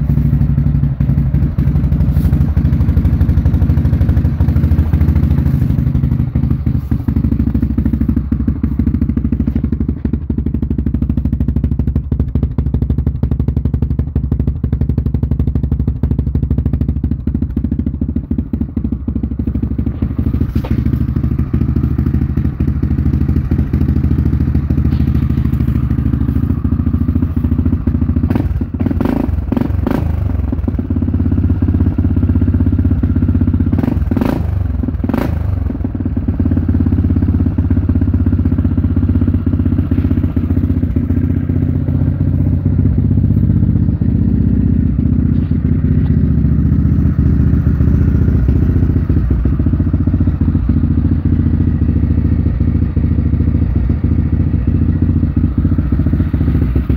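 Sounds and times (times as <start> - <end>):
atv engine idling: 0.0 - 56.9.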